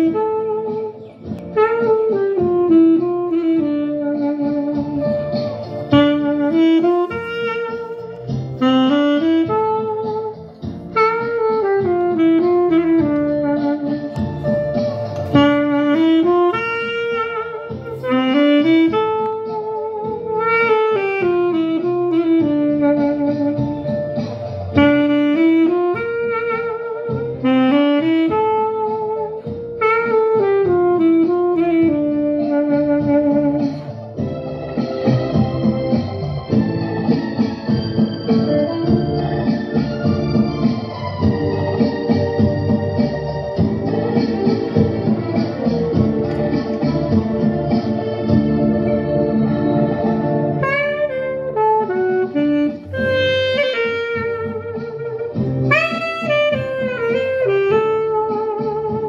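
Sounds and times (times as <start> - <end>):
low musical accompaniment: 0.0 - 59.0
saxophone playing jazz melody: 0.0 - 59.0.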